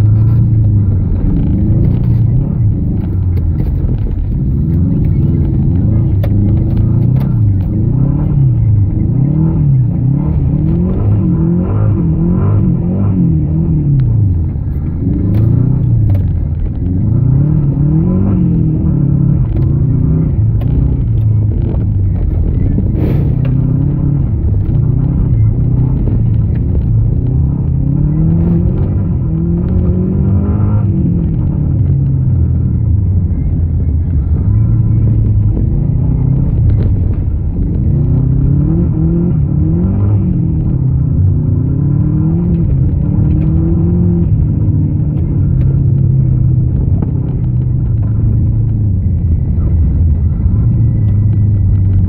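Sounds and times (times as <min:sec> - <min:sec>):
rally car engine revving: 0:00.0 - 0:52.0
road rumble: 0:00.0 - 0:52.0.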